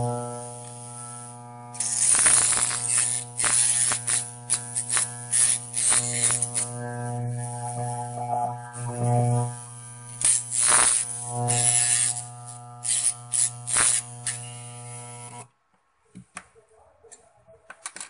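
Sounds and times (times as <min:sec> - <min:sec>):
armature tester humming: 0:00.0 - 0:15.5
hacksaw blade buzzing and rattling: 0:00.0 - 0:15.5.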